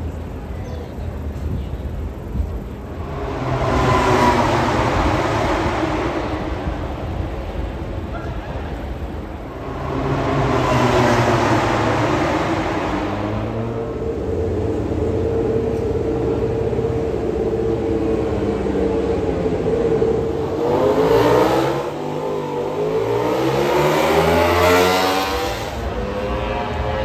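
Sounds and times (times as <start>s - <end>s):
engine running and revving: 2.9s - 8.1s, 8.7s - 27.0s.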